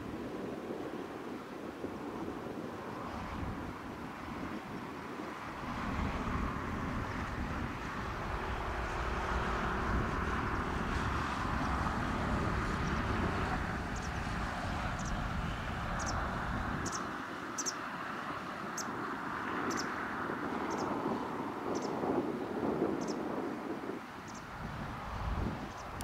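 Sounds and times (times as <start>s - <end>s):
distant turboprop plane droning: 0.0s - 26.0s.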